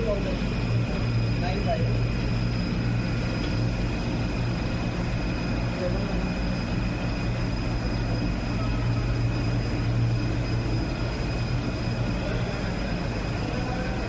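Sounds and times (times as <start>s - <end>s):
high whine: 0.0s - 14.0s
production line machinery hum: 0.0s - 14.0s.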